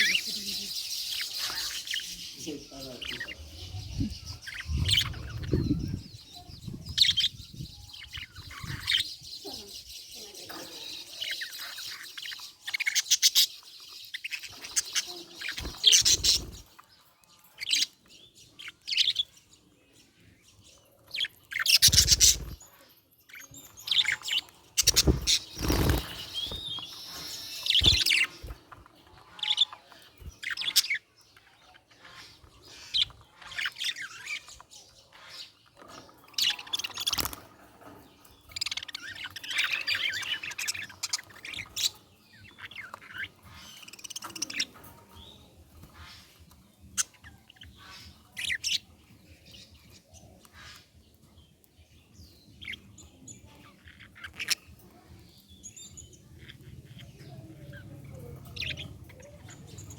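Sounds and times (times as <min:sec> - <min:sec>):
budgerigars chirping: 0:00.0 - 0:16.8, 0:21.1 - 0:22.6, 0:23.8 - 0:37.5, 0:38.4 - 0:51.2, 0:52.5 - 0:57.8.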